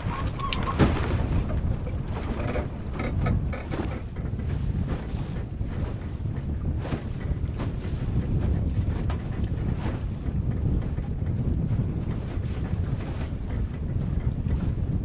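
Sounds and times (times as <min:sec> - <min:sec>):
boat hull slapping waves: 0:00.0 - 0:15.0
wind rumbling on microphone: 0:00.0 - 0:15.0.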